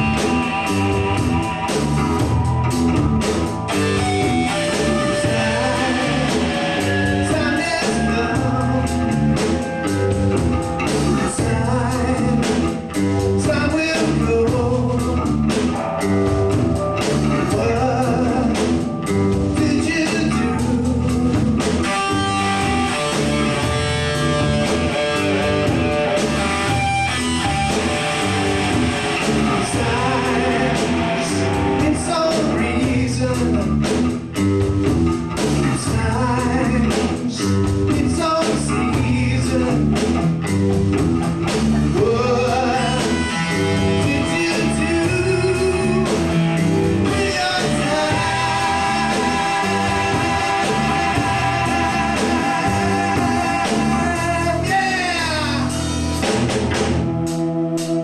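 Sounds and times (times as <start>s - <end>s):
bass guitar: 0.0s - 58.0s
drum kit: 0.0s - 58.0s
electric guitar: 0.0s - 58.0s
person singing: 3.7s - 15.6s, 17.0s - 34.0s, 35.6s - 40.1s, 41.9s - 55.8s.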